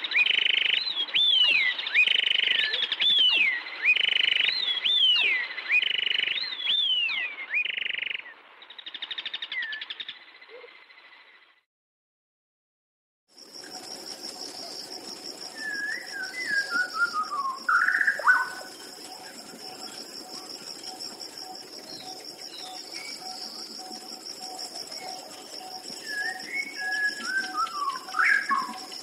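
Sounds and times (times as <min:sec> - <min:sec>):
songbird singing: 0:00.0 - 0:11.6, 0:13.4 - 0:29.0.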